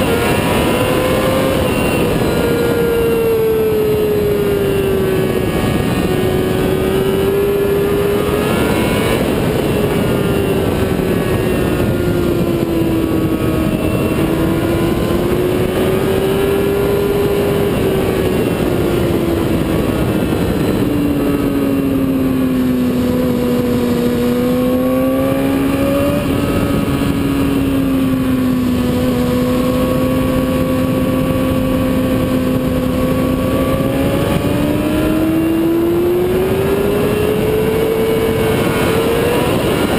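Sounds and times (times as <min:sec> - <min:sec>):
motorcycle engine at speed: 0:00.0 - 0:39.9
wind noise: 0:00.0 - 0:39.9.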